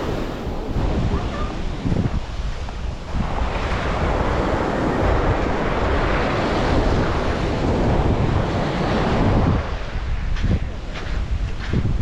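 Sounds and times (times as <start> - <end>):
sea waves breaking: 0.0 - 12.0
wind buffeting microphone: 0.0 - 12.0.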